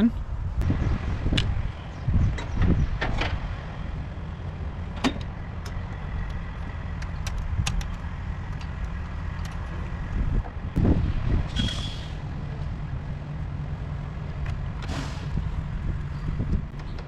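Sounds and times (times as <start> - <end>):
low rumble: 0.0 - 16.8.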